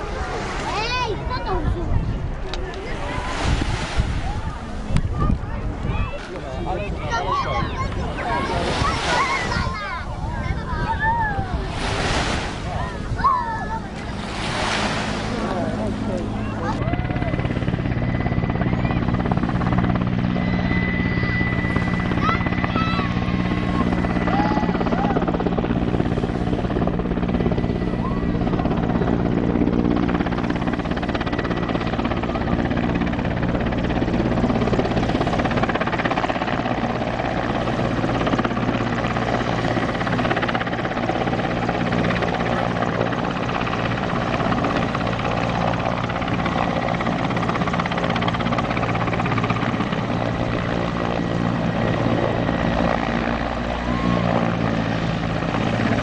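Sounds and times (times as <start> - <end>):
helicopter rotor and engines droning: 0.0 - 56.0.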